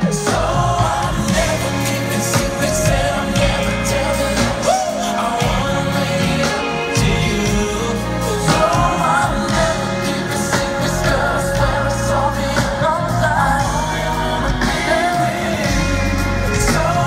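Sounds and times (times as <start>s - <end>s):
live band music: 0.0s - 17.0s
person singing: 0.0s - 17.0s.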